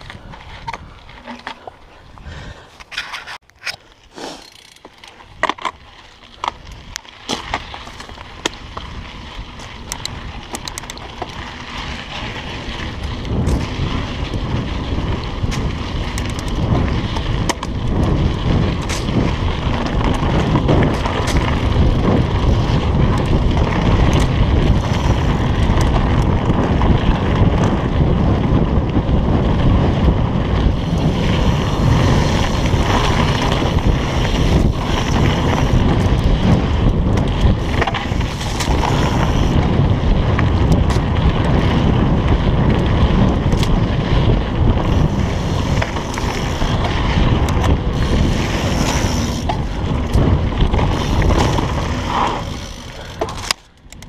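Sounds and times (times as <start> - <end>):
wind buffeting microphone: 0.0 - 2.7, 5.2 - 54.0
bike tyres clicking and knocking: 0.0 - 54.0.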